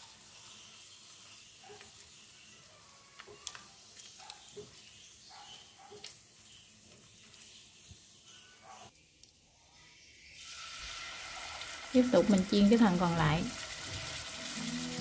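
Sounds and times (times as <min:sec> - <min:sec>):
pork sizzling in oil: 0:00.0 - 0:09.1, 0:09.7 - 0:15.0.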